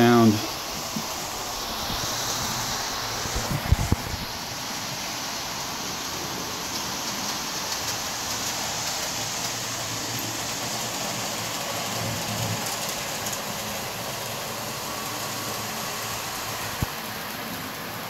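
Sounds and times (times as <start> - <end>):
model train wheels and motors whirring: 0.0 - 18.0.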